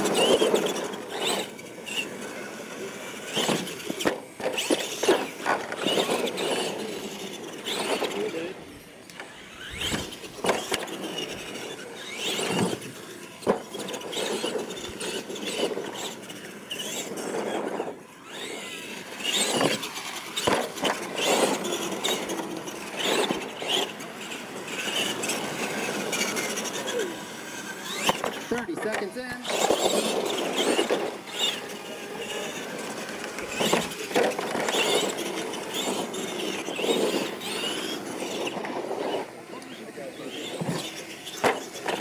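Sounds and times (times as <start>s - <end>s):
toy truck motor whining: 0.0s - 42.0s.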